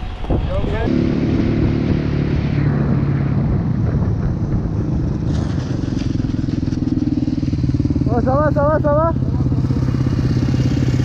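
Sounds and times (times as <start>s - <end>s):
dirt bike engine running: 0.1s - 11.0s.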